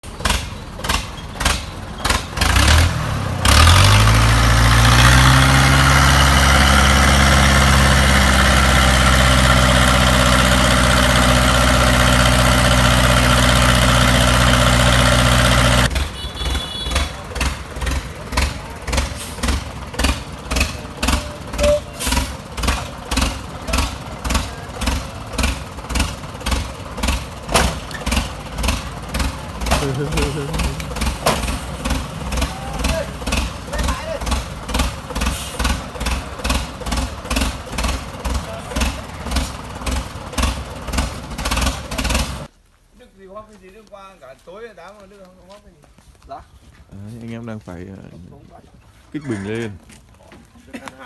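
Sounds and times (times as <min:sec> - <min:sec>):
excavator engine running: 0:00.0 - 0:42.5.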